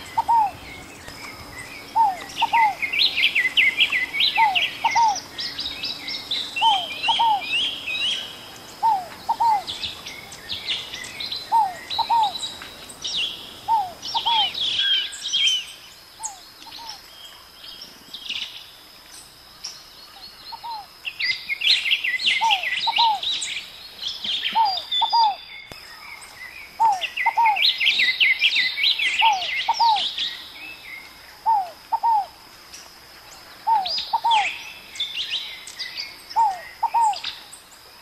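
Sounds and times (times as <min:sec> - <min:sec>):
birds twittering: 0:00.0 - 0:37.9.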